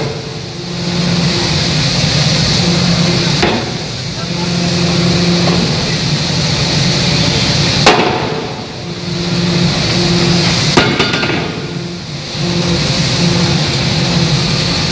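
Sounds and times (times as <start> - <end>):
machine hum: 0.0 - 14.9.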